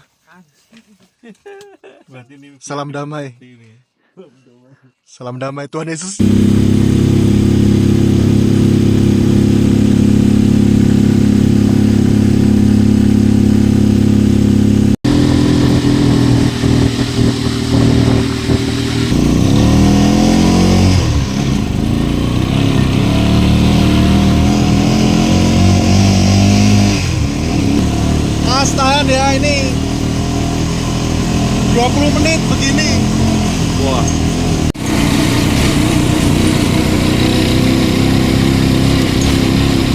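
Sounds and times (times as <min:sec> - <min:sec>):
motorcycle engine running: 0:06.2 - 0:39.9.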